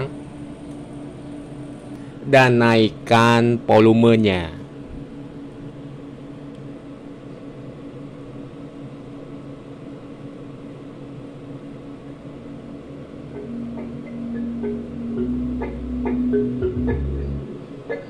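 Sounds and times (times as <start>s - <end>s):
cooling fan rushing: 0.0s - 18.0s
low steady hum: 0.0s - 18.0s.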